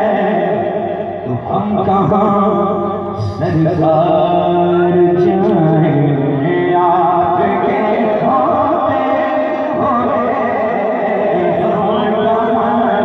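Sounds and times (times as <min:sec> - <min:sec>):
man singing devotional verse: 0:00.0 - 0:13.0.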